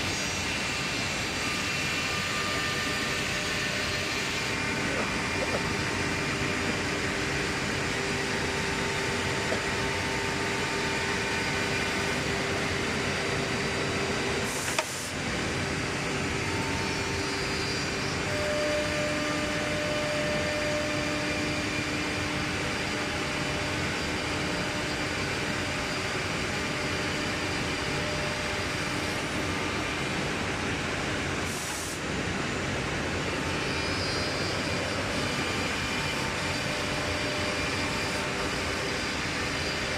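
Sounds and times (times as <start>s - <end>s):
milling machine running: 0.0s - 39.9s.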